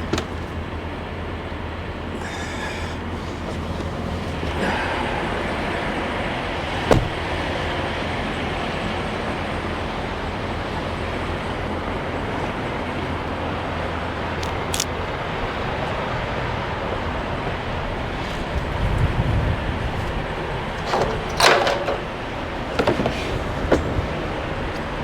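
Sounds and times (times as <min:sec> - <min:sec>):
engines idling: 0:00.0 - 0:25.0
passing traffic: 0:00.0 - 0:25.0.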